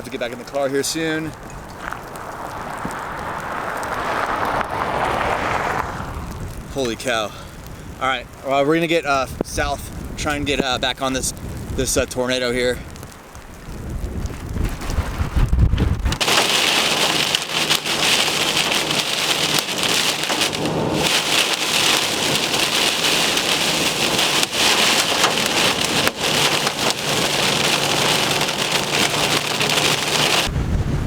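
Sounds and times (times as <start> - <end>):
rain and hail on car roof: 0.0 - 30.5.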